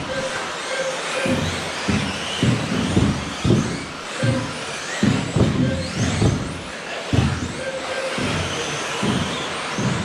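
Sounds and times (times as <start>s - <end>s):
low thumps: 1.2s - 10.0s.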